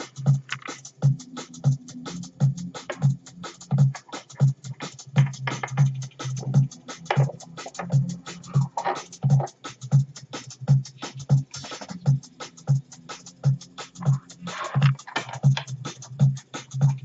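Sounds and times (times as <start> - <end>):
electronic music with beat: 0.0 - 17.0.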